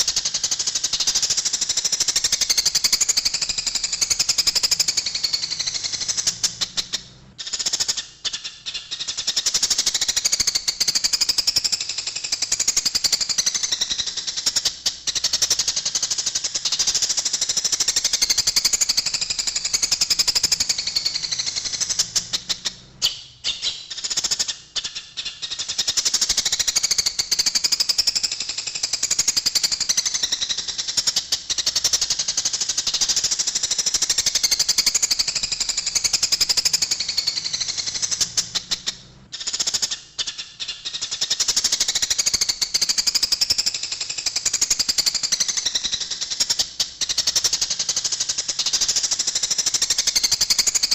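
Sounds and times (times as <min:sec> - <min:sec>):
sparrows chattering: 0:00.0 - 0:11.6, 0:12.4 - 0:28.1, 0:29.0 - 0:43.7.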